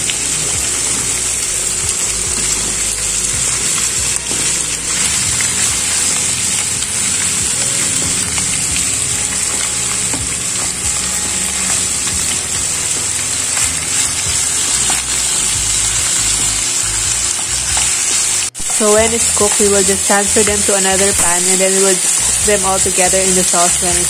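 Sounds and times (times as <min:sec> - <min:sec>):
background music: 0:00.0 - 0:24.0
chicken sizzling in a pan: 0:00.0 - 0:24.0.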